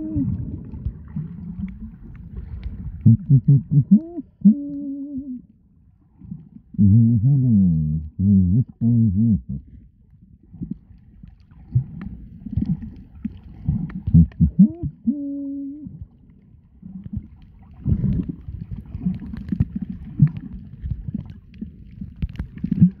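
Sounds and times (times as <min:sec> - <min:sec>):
underwater rumbling and gurgling: 0:00.0 - 0:23.0.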